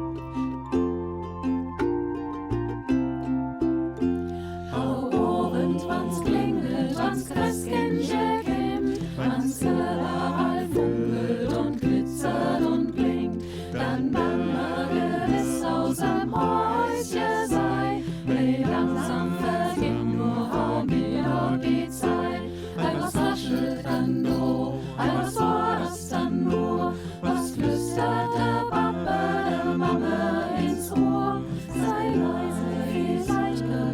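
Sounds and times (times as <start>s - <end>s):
choir singing in harmony: 4.4s - 33.9s.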